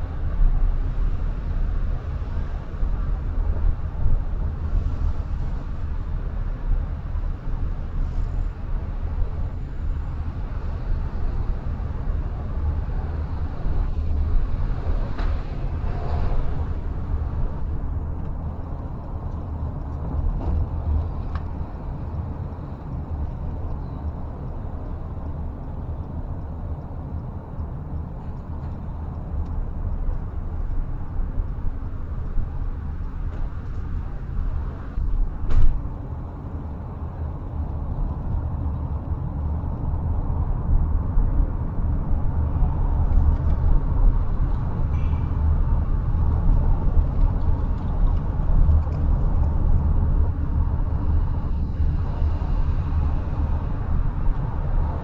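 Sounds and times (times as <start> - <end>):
car driving rumble from inside: 0.0 - 55.0.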